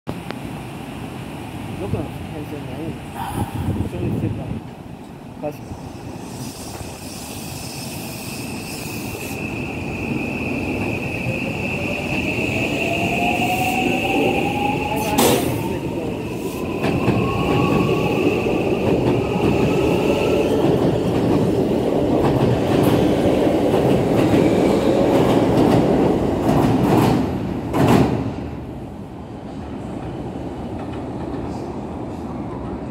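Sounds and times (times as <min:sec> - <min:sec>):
train rolling rumble: 0:00.2 - 0:32.9.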